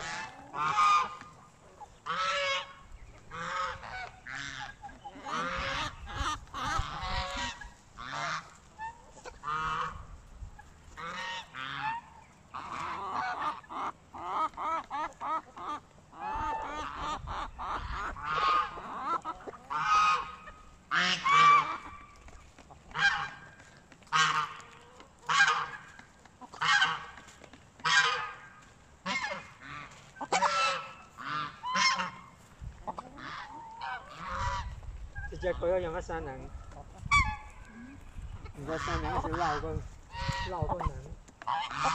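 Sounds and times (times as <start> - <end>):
geese honking: 0.0 - 41.9.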